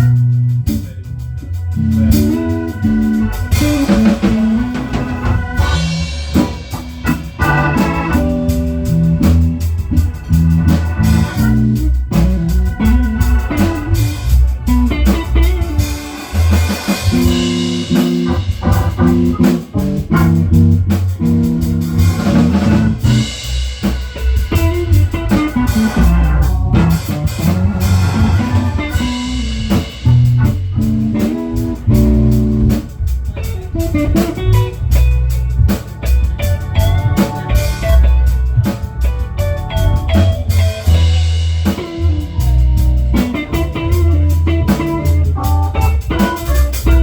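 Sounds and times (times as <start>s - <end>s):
instrumental blues band: 0.0s - 47.0s.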